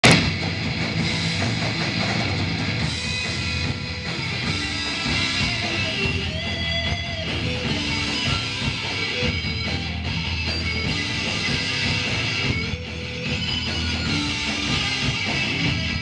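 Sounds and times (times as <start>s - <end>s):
electric guitar: 0.0s - 16.0s
rock band with drums: 0.0s - 16.0s.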